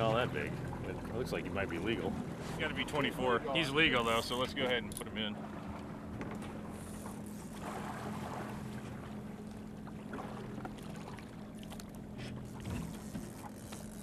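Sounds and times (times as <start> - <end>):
outboard motor humming: 0.0 - 14.0
water splashing at hull: 0.0 - 14.0.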